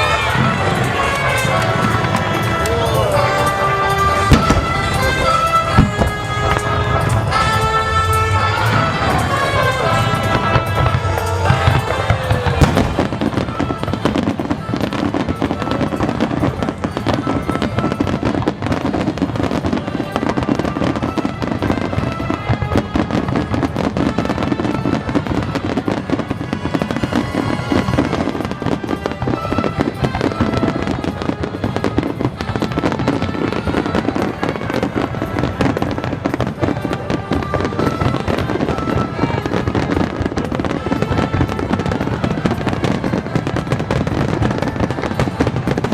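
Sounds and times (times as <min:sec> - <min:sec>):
fireworks bursting and crackling: 0:00.0 - 0:45.9
music playing: 0:00.0 - 0:45.9.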